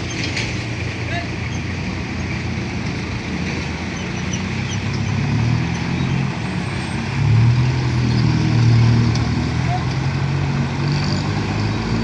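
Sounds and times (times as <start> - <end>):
large vehicle engine droning: 0.0 - 12.0
traffic noise: 0.0 - 12.0.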